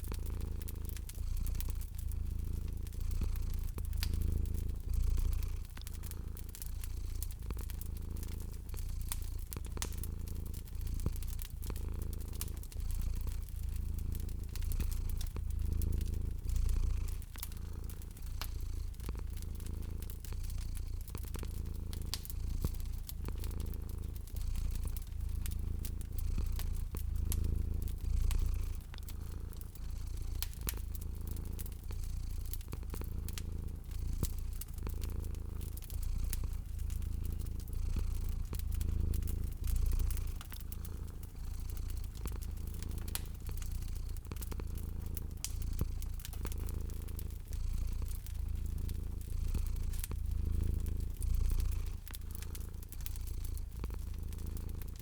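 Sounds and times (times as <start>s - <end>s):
cat purring: 0.0s - 55.0s
wood fire crackling: 0.0s - 55.0s.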